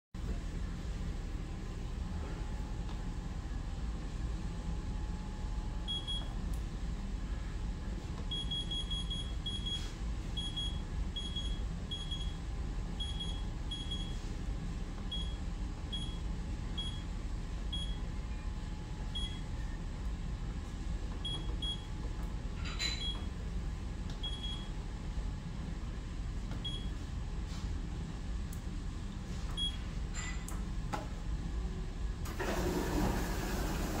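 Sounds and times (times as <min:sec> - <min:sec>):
steady low hum: 0:00.2 - 0:32.3.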